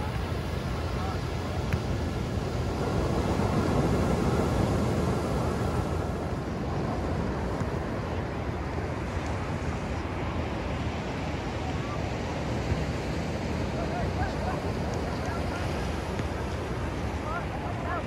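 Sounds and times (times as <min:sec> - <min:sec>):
small waves breaking on shore: 0:00.0 - 0:18.0.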